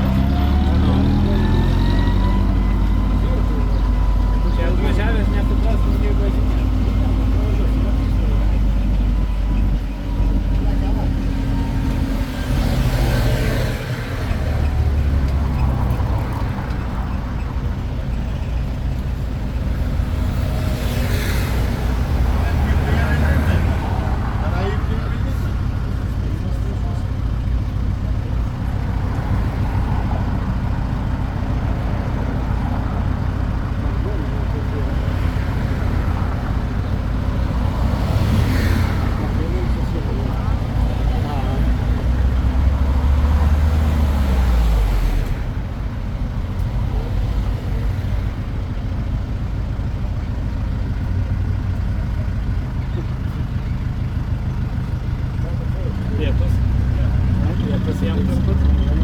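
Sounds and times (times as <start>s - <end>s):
road train engine rumbling: 0.0s - 59.0s.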